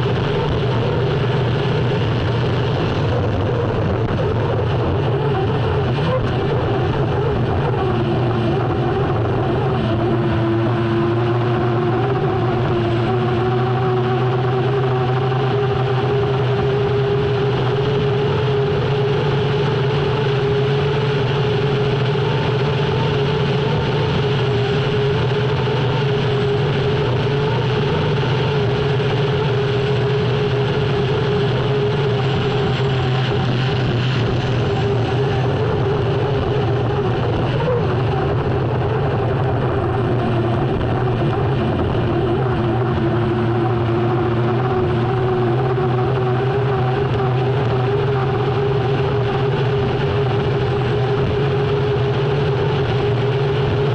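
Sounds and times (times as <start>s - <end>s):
turbine engine running hard: 0.0s - 53.9s.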